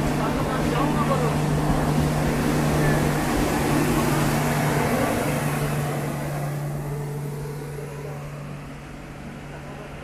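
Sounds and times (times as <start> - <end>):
constant low hum: 0.0 - 10.0
train running rush: 0.0 - 10.0.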